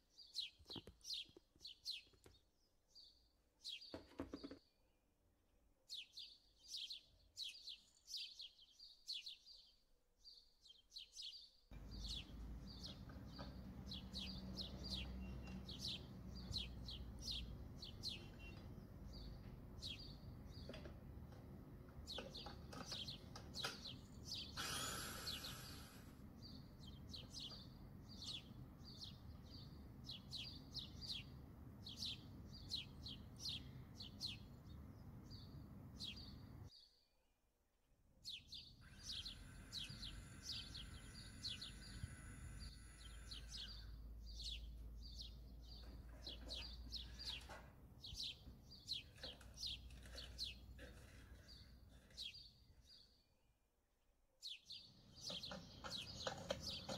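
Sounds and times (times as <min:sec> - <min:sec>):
small birds chirping: 0:00.0 - 0:05.0, 0:05.9 - 0:37.3, 0:38.1 - 0:56.9.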